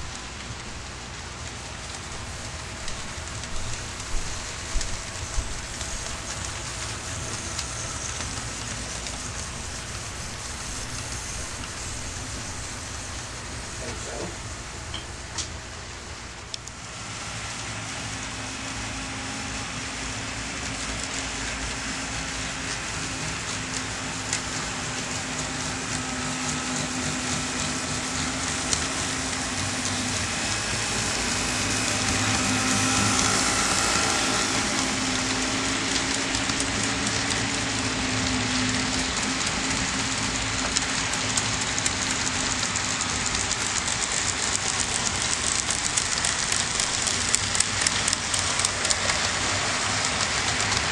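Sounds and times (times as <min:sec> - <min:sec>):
model train rolling on track: 0:00.0 - 0:50.9.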